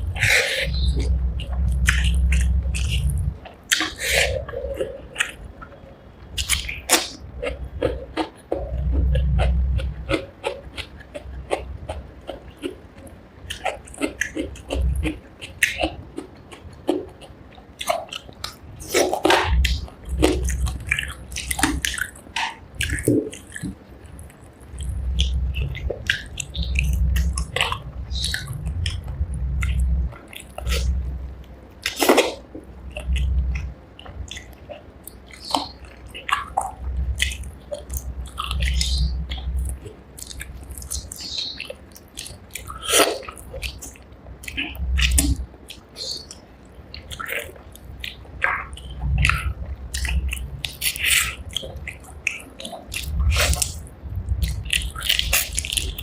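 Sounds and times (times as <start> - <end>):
person chewing: 0.0 - 5.8, 6.4 - 56.0.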